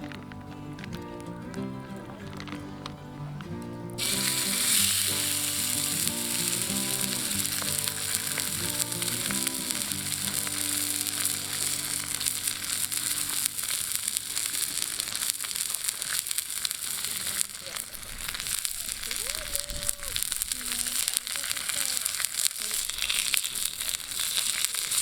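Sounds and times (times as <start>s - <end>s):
ribs sizzling over campfire: 0.0s - 25.0s.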